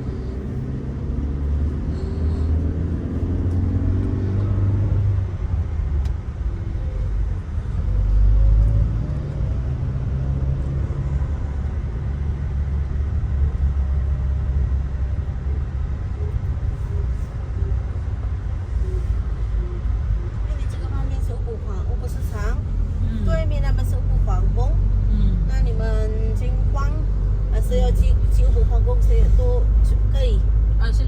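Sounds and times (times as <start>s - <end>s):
road and engine rumble in car: 0.0s - 31.0s.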